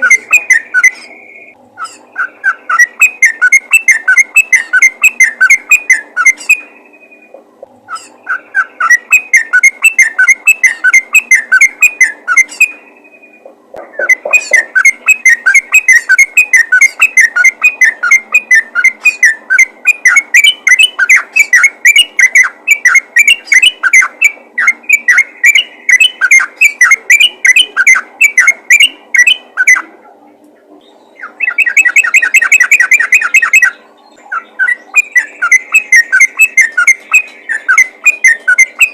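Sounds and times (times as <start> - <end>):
bird whistled chatter: 0.0 - 13.4, 14.0 - 29.9, 31.1 - 38.9.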